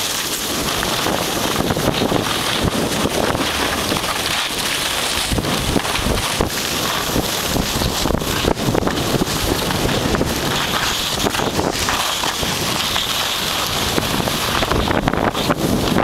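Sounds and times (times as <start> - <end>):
skis scraping on snow: 0.0 - 16.0
wind buffeting microphone: 0.0 - 16.0.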